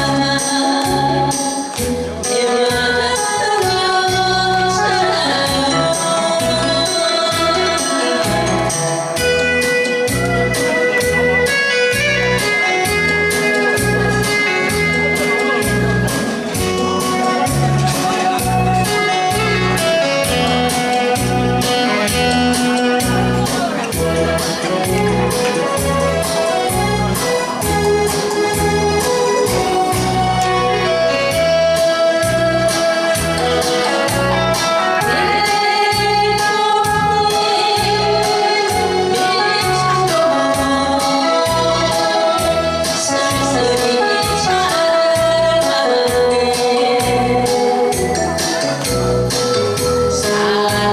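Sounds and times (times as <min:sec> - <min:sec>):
woman singing into microphone: 0:00.0 - 0:48.9, 0:50.1 - 0:50.9
backing track through pa: 0:00.0 - 0:50.9.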